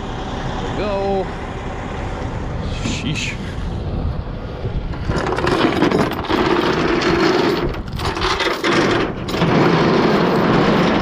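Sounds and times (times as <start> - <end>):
heavy machinery running: 0.0 - 11.0.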